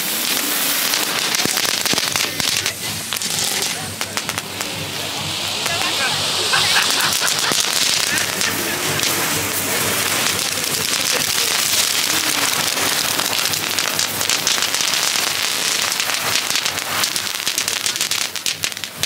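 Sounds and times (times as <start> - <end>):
fountain fireworks hissing and crackling: 0.0 - 19.0.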